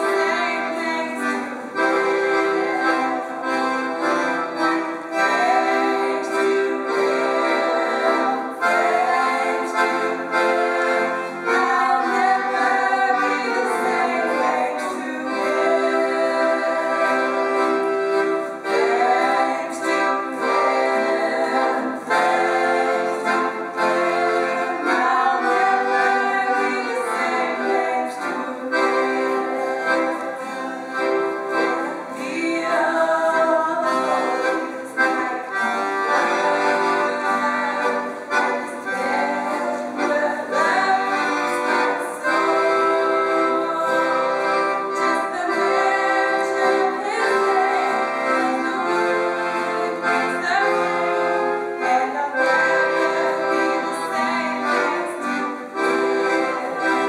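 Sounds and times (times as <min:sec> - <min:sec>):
woman singing: 0:00.0 - 0:02.0, 0:05.2 - 0:10.2, 0:11.5 - 0:17.4, 0:18.7 - 0:23.5, 0:24.6 - 0:30.6, 0:31.6 - 0:55.3
piano accordion: 0:00.0 - 0:57.0.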